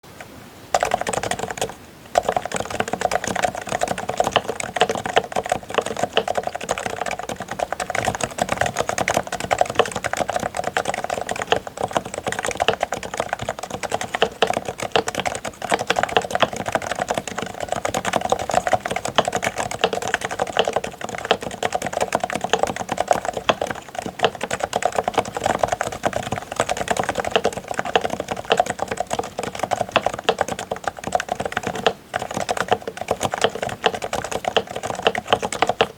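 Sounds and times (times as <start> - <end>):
muted keyboard keystrokes: 0.2 - 35.9.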